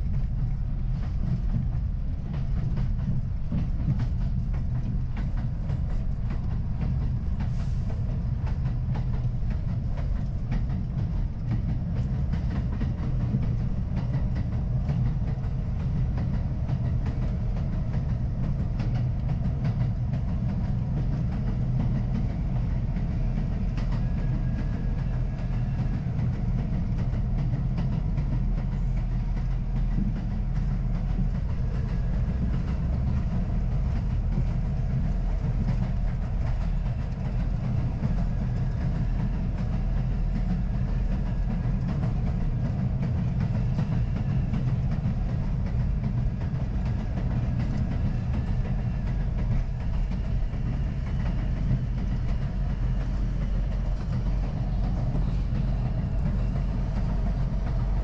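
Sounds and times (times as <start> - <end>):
subway train wheels rumbling: 0.0 - 58.0.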